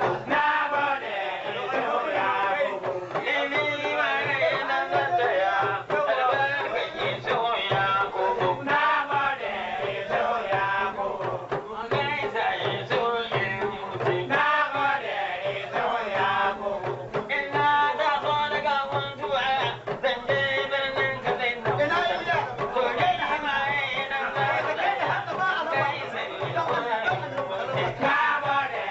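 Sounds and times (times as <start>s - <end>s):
man singing: 0.0s - 28.9s
talking drums beating: 0.0s - 28.9s.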